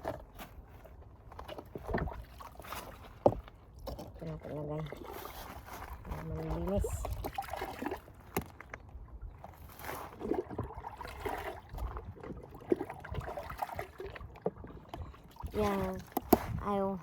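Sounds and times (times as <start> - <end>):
water sloshing and trickling: 0.0 - 17.0.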